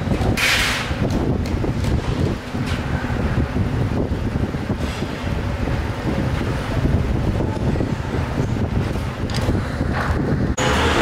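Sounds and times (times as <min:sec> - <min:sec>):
low rumbling workshop noise: 0:00.0 - 0:11.0.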